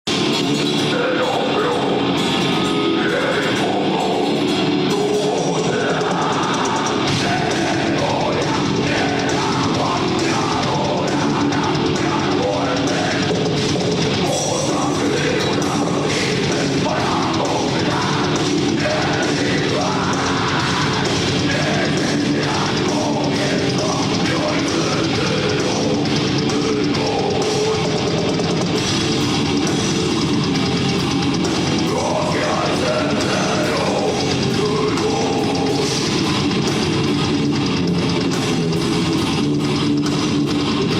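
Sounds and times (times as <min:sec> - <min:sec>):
heavy metal band playing live: 0:00.0 - 0:40.9.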